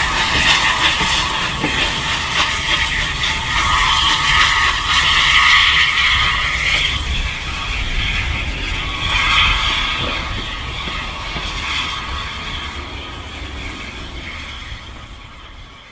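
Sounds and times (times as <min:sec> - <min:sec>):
steam locomotive rumble: 0:00.0 - 0:15.9
wheels squealing on rails: 0:00.0 - 0:15.9.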